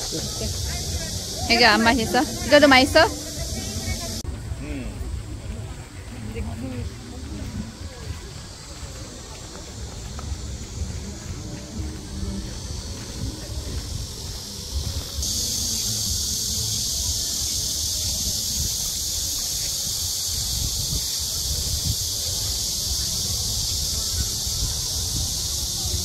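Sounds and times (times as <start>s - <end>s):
cicadas buzzing: 0.0s - 26.0s.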